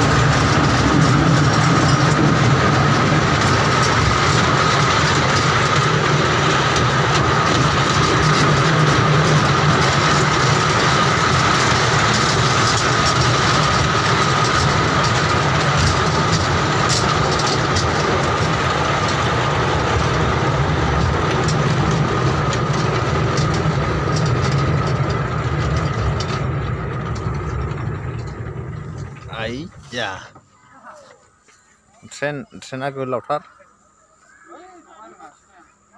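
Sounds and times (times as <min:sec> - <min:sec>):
small train wheels and whine: 0:00.0 - 0:35.9.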